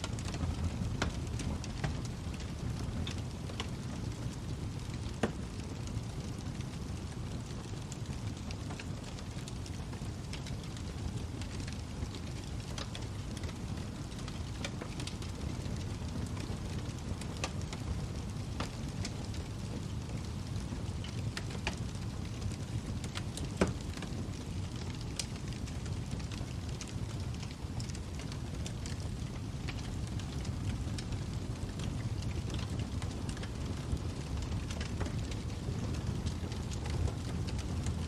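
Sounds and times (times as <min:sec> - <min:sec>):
fire crackling and popping: 0:00.0 - 0:38.0.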